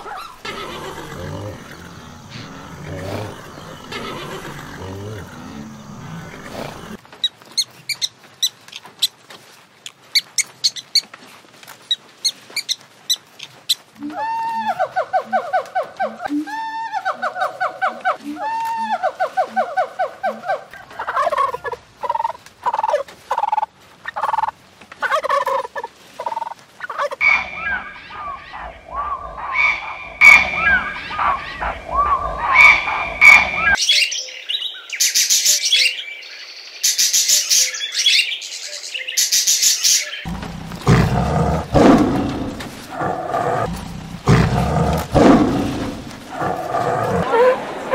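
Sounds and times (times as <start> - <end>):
animal calls: 0.0 - 9.2, 11.9 - 33.8, 40.0 - 47.9.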